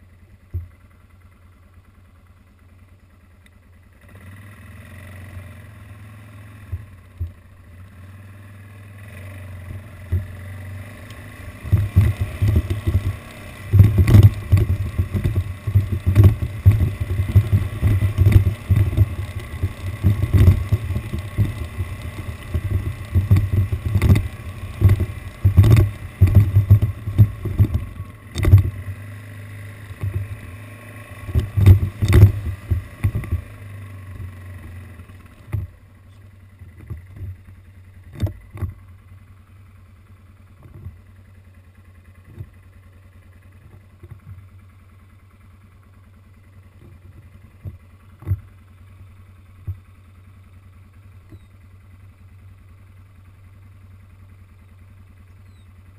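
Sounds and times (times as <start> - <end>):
atv driving over rough ground: 0.0 - 55.9
atv engine idling: 0.0 - 55.9.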